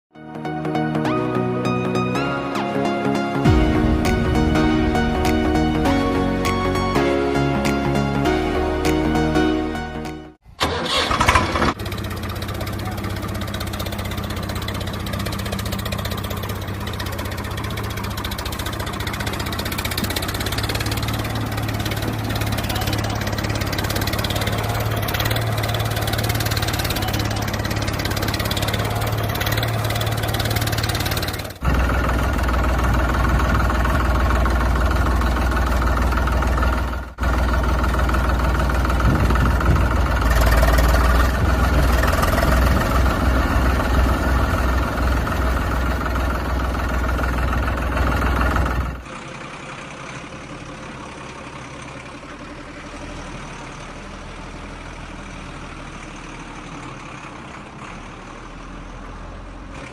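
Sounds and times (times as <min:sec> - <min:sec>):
vehicle engine running: 0:03.1 - 0:09.8, 0:10.6 - 0:59.9.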